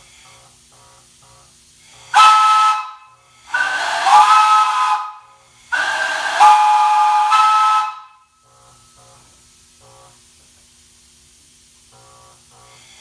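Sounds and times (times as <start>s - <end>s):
steam hiss: 0.0s - 13.0s.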